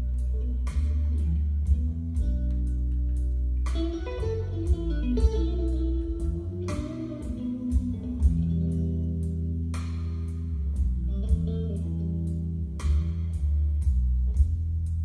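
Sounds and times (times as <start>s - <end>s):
bass line: 0.0s - 15.0s
electric guitar music: 0.0s - 15.0s.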